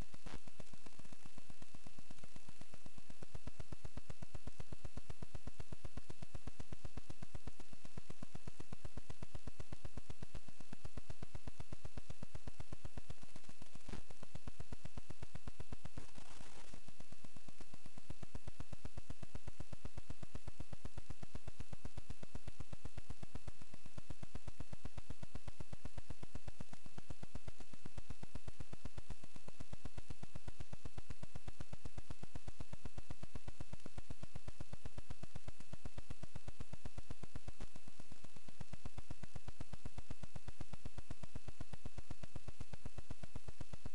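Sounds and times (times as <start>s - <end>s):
electrical buzz and hiss: 0.0s - 43.9s
faint high whine: 0.0s - 43.9s.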